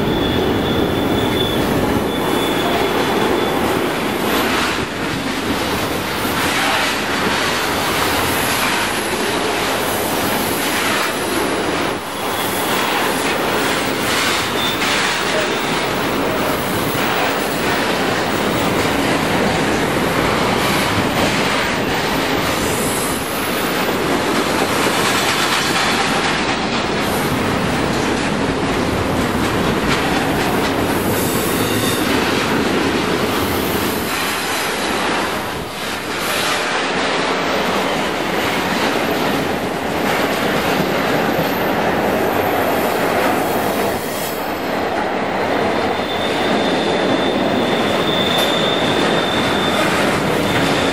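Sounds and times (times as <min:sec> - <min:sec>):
train wheel squeal: 0:00.0 - 0:26.3, 0:29.8 - 0:44.7, 0:45.3 - 0:50.9
freight train rumbling and rattling: 0:00.0 - 0:50.9.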